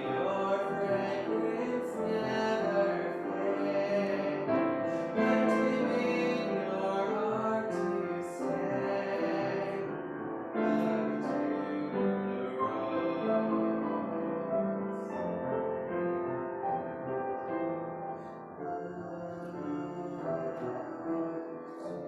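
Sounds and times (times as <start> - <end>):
slow keyboard music: 0.0 - 22.0.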